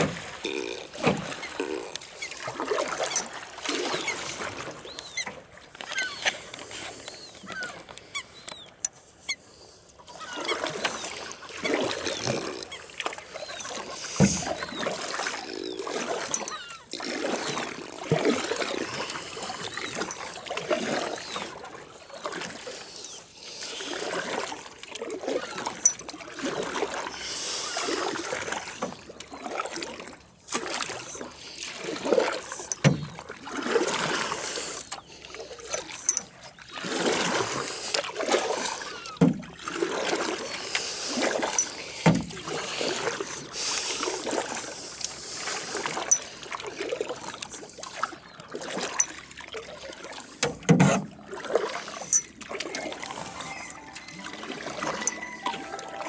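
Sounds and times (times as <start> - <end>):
water splashing around rowboat: 0.0 - 56.0.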